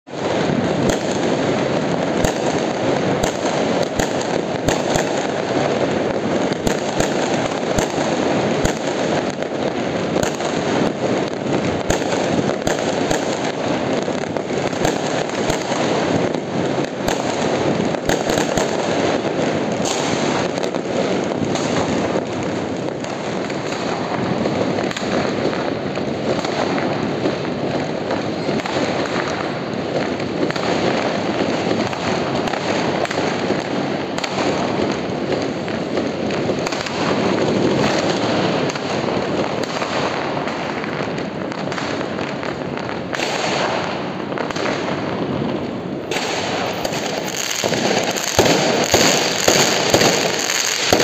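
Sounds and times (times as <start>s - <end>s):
firecrackers crackling: 0.0s - 51.0s
sharp firework bangs: 0.1s - 51.0s.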